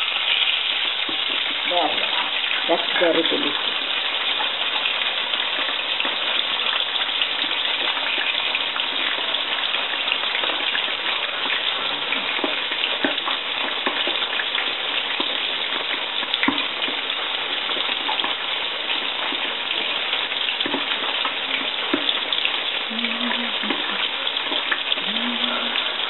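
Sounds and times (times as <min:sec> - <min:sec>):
fish frying in oil: 0:00.0 - 0:26.0.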